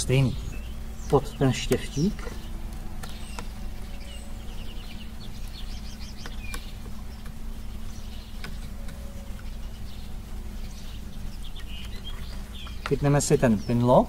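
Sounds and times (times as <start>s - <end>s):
faint bird chirps: 0.0s - 14.0s
low hum: 0.0s - 14.0s.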